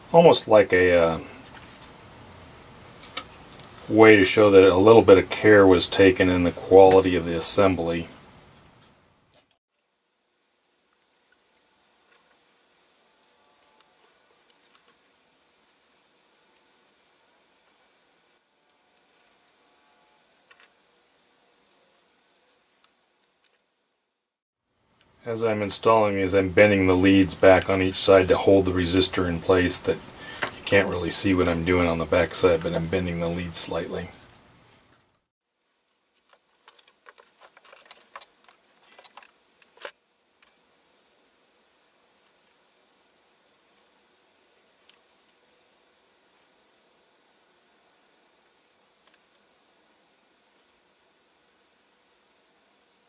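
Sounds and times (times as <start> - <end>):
faint room hiss: 0.0 - 53.0.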